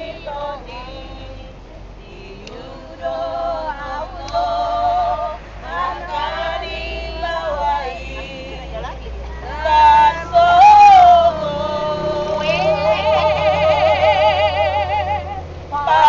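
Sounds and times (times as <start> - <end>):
bus engine rumble: 0.0 - 16.0
women singing together: 0.0 - 16.0.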